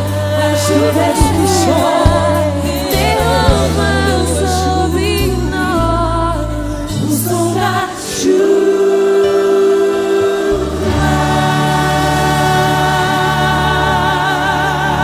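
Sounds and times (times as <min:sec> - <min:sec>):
choir singing: 0:00.0 - 0:15.0
keyboard chords and bass: 0:00.0 - 0:15.0.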